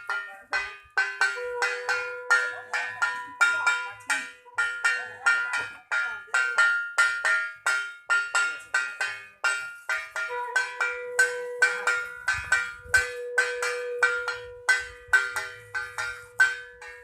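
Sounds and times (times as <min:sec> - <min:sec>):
metal bell ringing strikes: 0:00.0 - 0:17.0.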